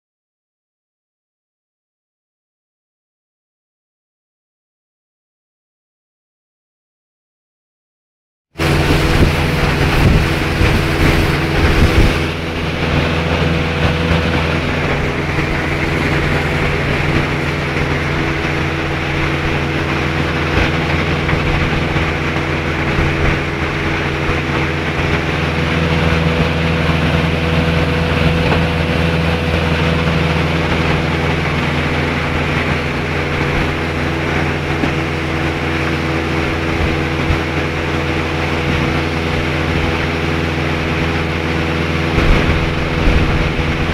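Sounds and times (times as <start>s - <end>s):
outboard motor running: 8.6s - 43.9s
wind on microphone: 8.6s - 43.9s.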